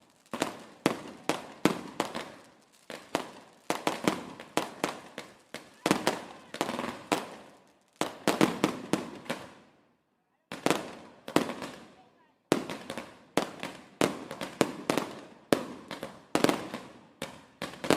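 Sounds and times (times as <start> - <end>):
fireworks bangs: 0.0 - 9.6, 10.5 - 17.9.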